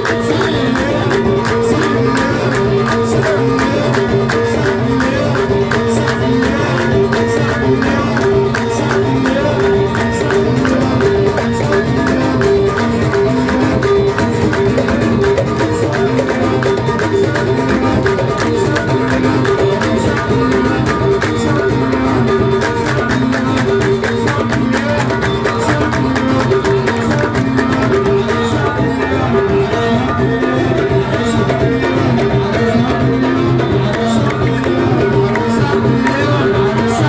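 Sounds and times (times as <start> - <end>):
fast drum beat: 0.0 - 37.0
live music through pa system: 0.0 - 37.0.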